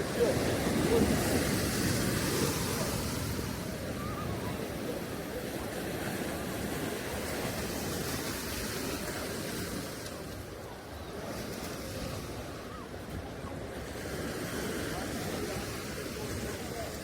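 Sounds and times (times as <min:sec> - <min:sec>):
ocean surf on sand: 0:00.0 - 0:17.0.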